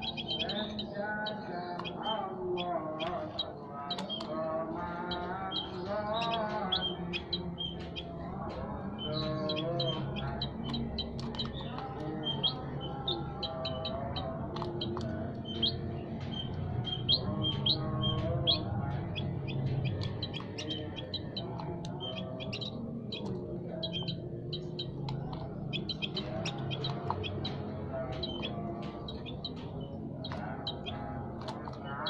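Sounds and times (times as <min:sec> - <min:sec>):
songbirds chirping: 0:00.0 - 0:32.0.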